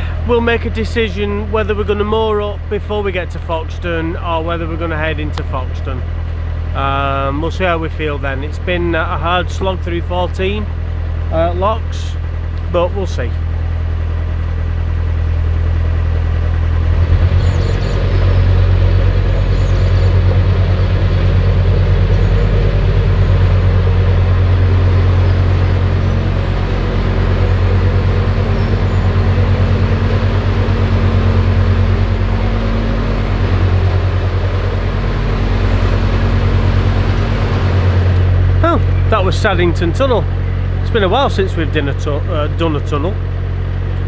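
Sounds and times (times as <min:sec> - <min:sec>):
boat diesel engine running: 0:00.0 - 0:44.0.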